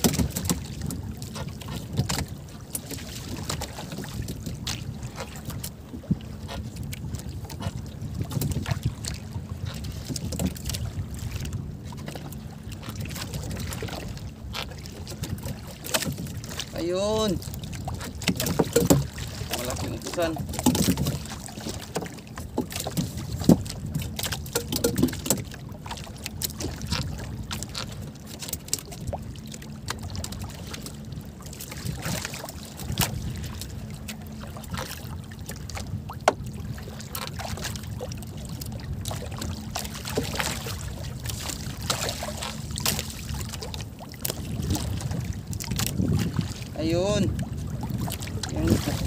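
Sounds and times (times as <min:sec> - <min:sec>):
wind and sea rumbling hiss: 0:00.0 - 0:49.0.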